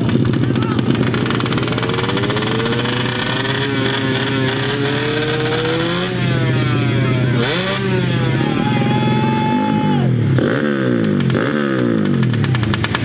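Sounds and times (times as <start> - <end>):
motorcycle engines accelerating: 0.0 - 13.0.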